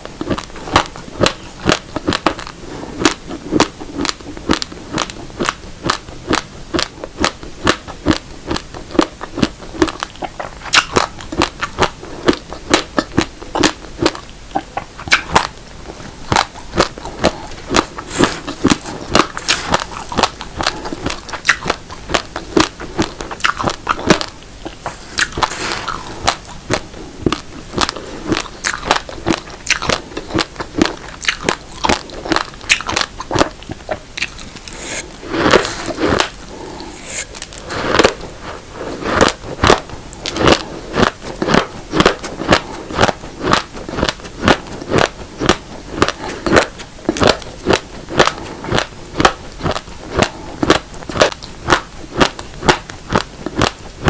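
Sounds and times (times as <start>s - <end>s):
chewing crunchy raw rice: 0.1s - 53.8s.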